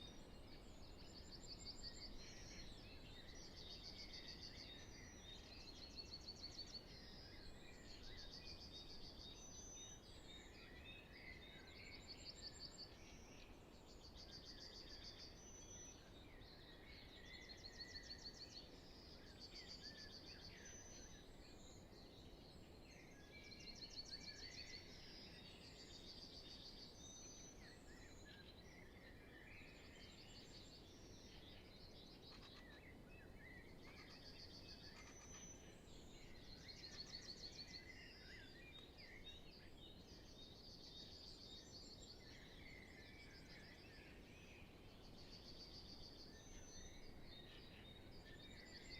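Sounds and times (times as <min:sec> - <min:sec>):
birds singing: 0:00.0 - 0:48.9
soft steady hiss: 0:00.0 - 0:48.9.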